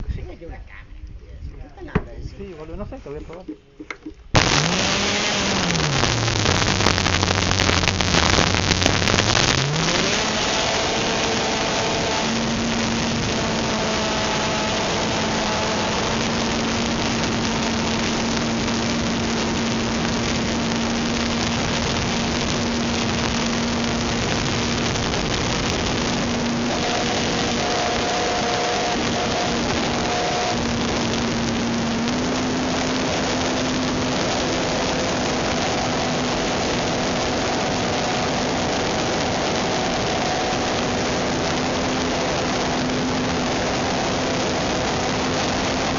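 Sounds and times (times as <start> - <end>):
model plane engine buzzing: 4.4 - 45.9.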